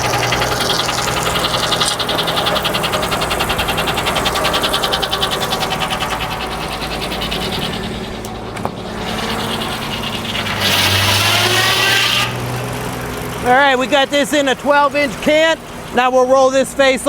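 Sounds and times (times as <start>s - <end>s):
fast rhythmic clatter: 0.0s - 17.0s
sawmill engine running: 0.0s - 17.0s.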